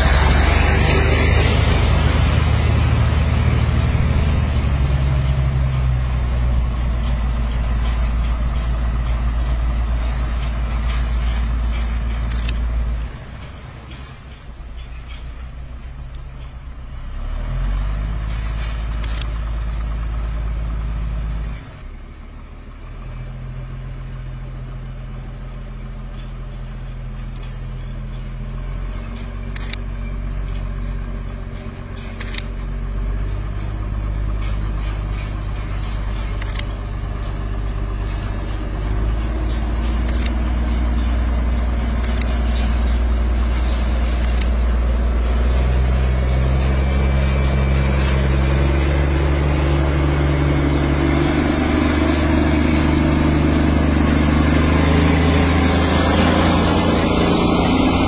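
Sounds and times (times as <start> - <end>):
locomotive drone: 0.0 - 58.0.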